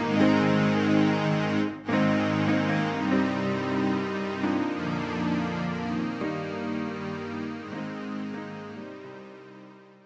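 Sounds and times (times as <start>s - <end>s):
sustained chords music: 0.0s - 10.0s.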